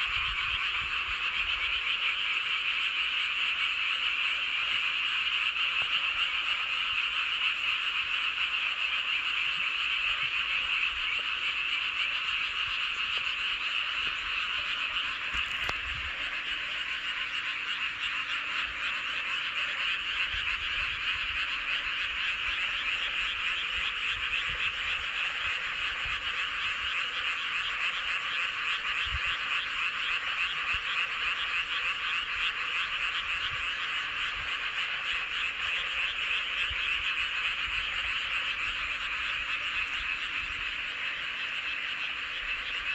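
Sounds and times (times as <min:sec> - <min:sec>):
frogs chorus calling: 0:00.0 - 0:42.9.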